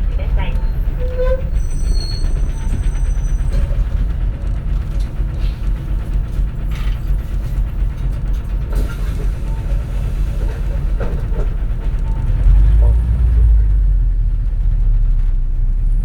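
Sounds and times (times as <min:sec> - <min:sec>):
clicks and rattles in bus interior: 0:00.0 - 0:15.8
bus engine drone: 0:00.0 - 0:16.0.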